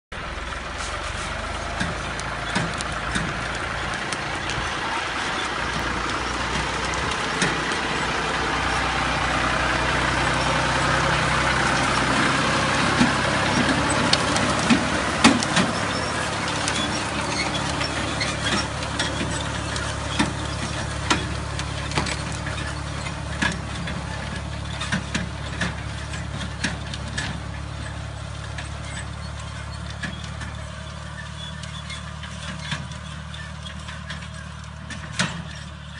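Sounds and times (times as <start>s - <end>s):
tractor engine running: 0.1s - 35.9s.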